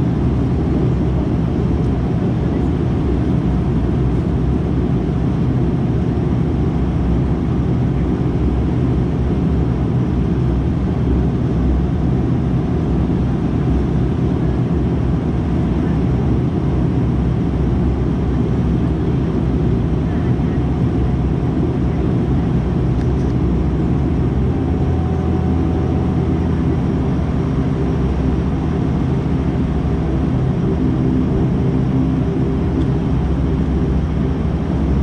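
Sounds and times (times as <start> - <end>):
turboprop engines droning in cabin: 0.0 - 35.0.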